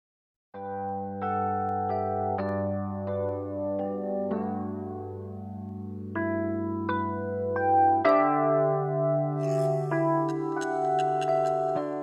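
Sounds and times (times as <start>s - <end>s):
soft electric piano music: 0.6s - 12.0s.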